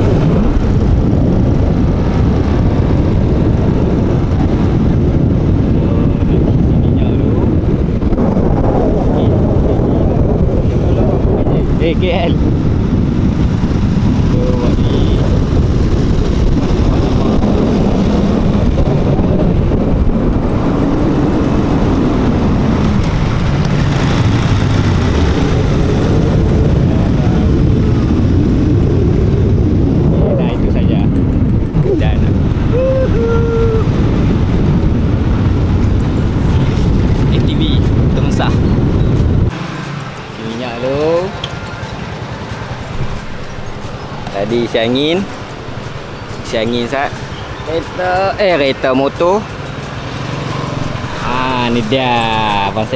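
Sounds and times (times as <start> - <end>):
motorcycles riding: 0.0 - 52.9
road noise: 0.0 - 52.9
wind rushing: 0.0 - 52.9.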